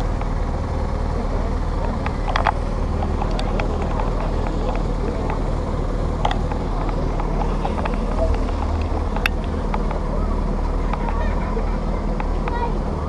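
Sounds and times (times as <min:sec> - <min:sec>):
faint voices: 0:00.0 - 0:13.0
low rumble of slow vehicles: 0:00.0 - 0:13.0.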